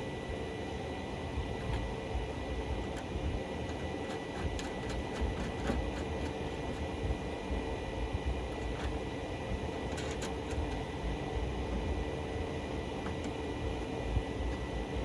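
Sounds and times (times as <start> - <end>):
workshop machines humming: 0.0 - 15.0.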